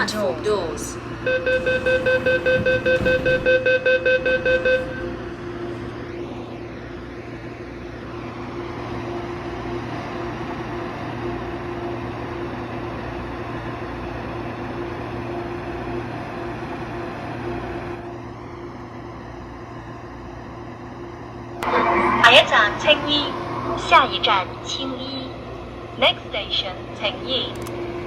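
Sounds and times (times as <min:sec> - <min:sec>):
train running rumble and hum: 0:00.0 - 0:28.0.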